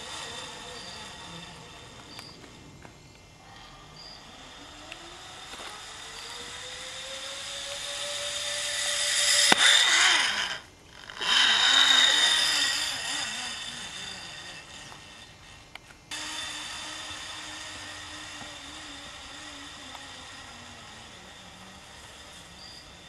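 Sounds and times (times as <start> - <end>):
zipline pulley whirring on cable: 0.0 - 23.0.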